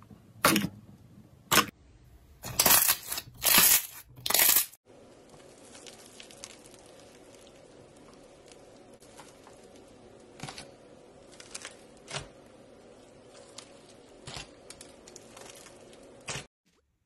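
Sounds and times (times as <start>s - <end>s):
slime crackling and squishing: 2.4s - 16.5s.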